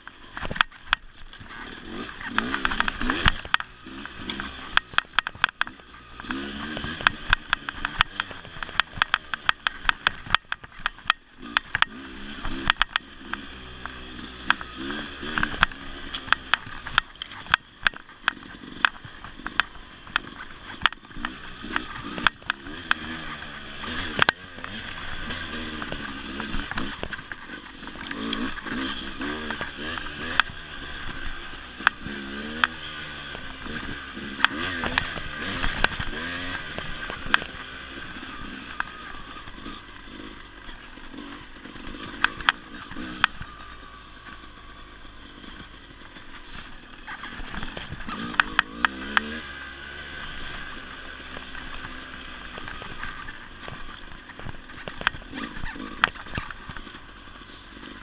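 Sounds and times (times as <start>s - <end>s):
dirt bike engine revving: 0.0s - 58.0s
knocks and clatters on rough ground: 0.0s - 58.0s.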